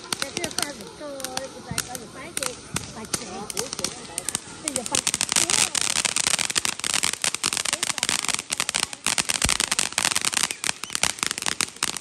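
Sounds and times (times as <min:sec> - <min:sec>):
firecrackers popping rapidly: 0:00.0 - 0:12.0.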